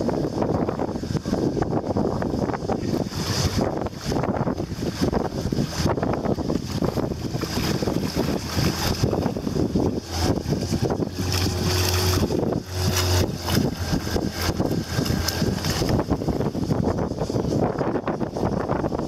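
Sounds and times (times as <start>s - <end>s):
river water washing: 0.0s - 19.0s
wind buffeting microphone: 0.0s - 19.0s.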